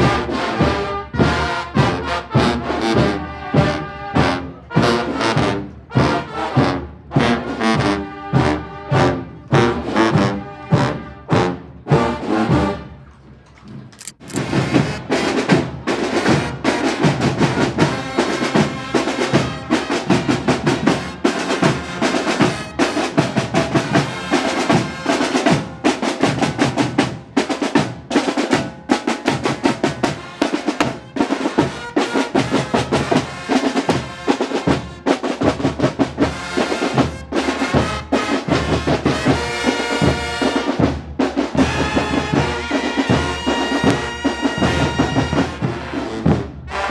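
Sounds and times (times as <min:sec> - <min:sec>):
snare and bass drums: 0:00.0 - 0:12.8, 0:14.0 - 0:46.9
brass band playing: 0:00.0 - 0:13.0, 0:14.2 - 0:46.9.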